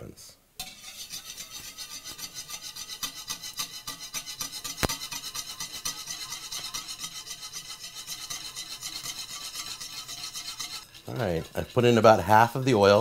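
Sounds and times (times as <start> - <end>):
whisk scraping in ceramic bowl: 0.6 - 13.0.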